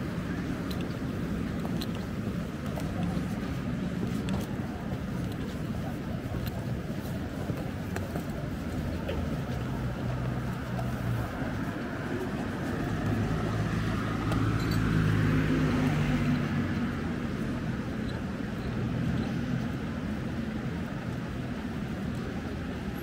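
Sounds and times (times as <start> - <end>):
city street ambience: 0.0 - 23.0.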